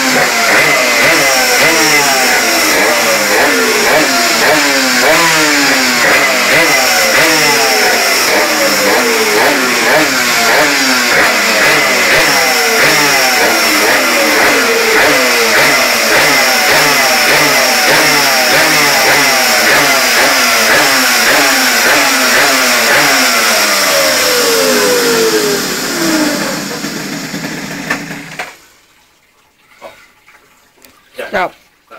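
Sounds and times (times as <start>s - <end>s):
small two-stroke engine revving: 0.0s - 28.6s.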